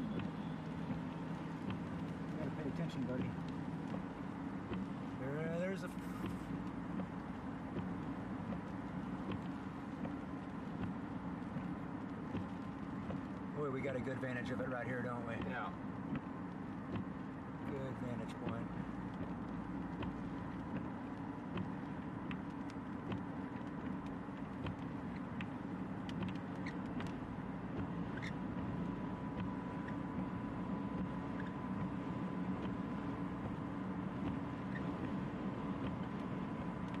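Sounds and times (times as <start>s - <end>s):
car engine and tyre drone: 0.0s - 37.0s
light ticks: 0.1s - 32.0s, 32.6s - 37.0s.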